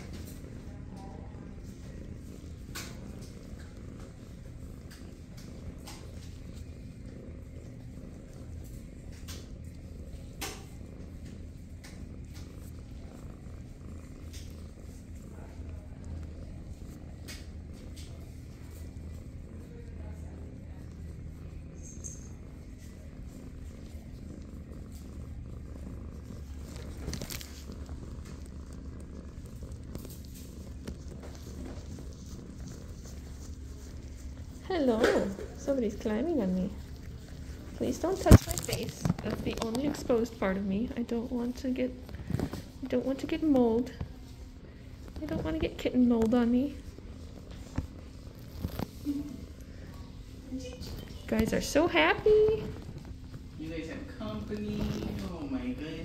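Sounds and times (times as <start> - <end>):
kitten purring: 0.0 - 56.0.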